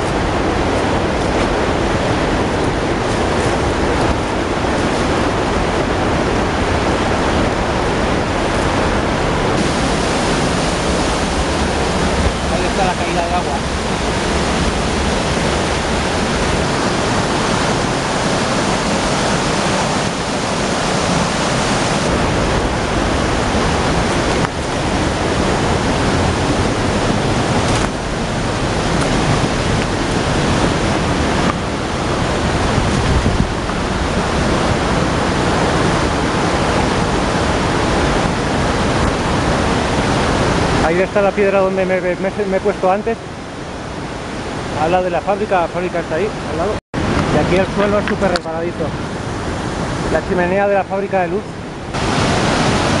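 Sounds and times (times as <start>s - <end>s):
waterfall rushing over rocks: 0.0s - 53.0s.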